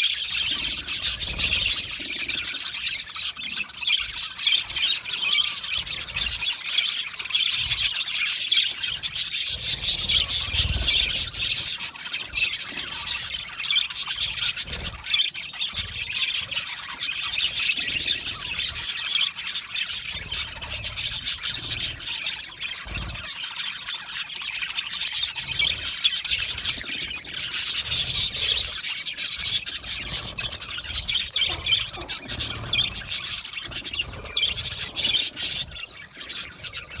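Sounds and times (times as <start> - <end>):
budgerigars chirping and chattering: 0.0 - 37.0.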